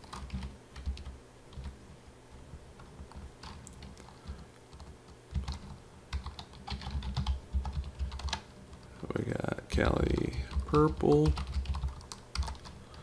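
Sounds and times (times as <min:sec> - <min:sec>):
typing on computer keyboard: 0:00.0 - 0:01.8, 0:02.8 - 0:08.9, 0:10.0 - 0:13.0.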